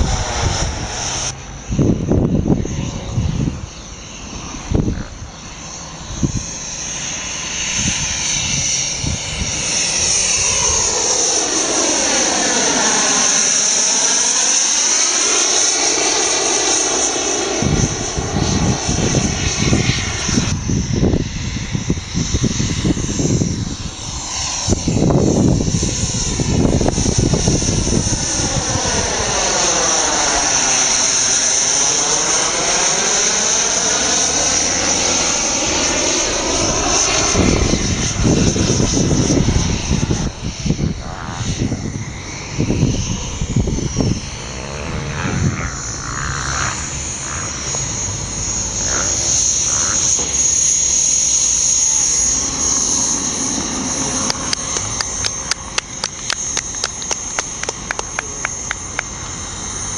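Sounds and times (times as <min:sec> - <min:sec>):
model jet engine whine: 0:00.0 - 0:59.9.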